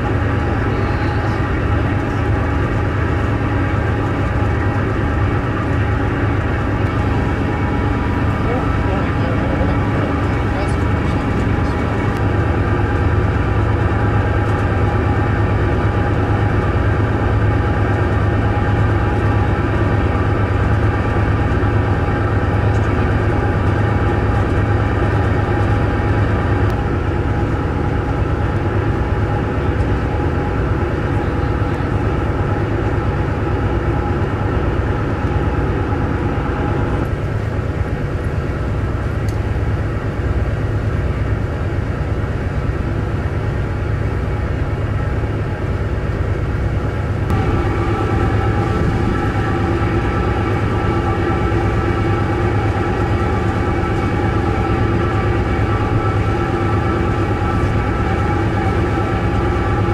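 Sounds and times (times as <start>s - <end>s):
ferry diesel engines droning: 0.0s - 59.9s.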